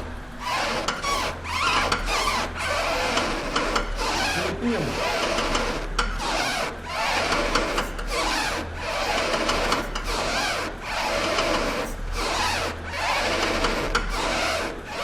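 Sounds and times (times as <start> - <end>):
steering rack squeaking and grating: 0.4 - 15.0.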